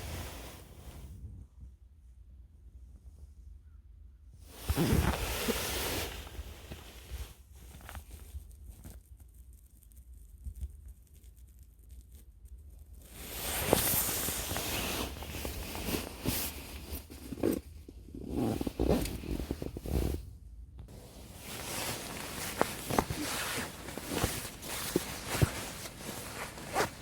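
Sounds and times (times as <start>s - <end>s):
rustling and handling noise: 4.5s - 27.0s.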